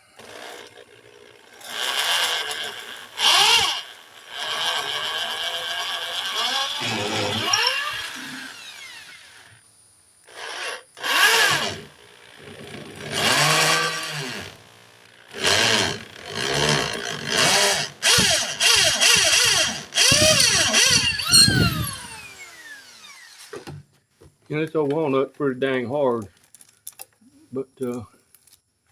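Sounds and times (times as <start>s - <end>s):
electric drill boring wood: 0.0s - 9.6s, 10.2s - 23.8s.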